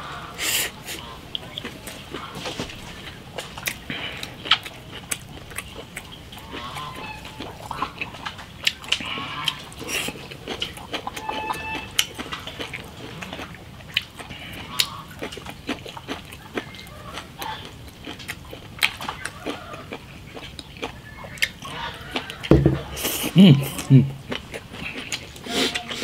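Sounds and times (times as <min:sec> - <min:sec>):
person chewing and lip-smacking: 0:03.0 - 0:26.0.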